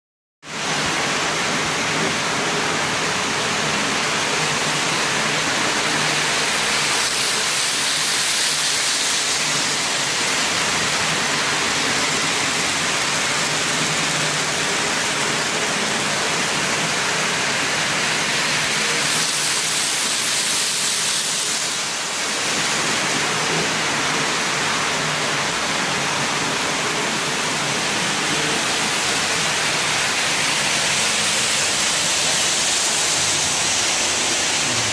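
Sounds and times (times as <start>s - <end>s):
model trains whirring on rails: 0.4s - 34.9s.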